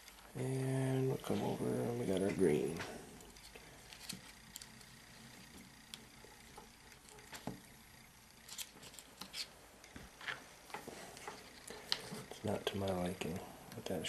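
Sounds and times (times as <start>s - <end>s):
small clicks and rustles of wires: 0.0s - 0.4s, 1.3s - 13.9s.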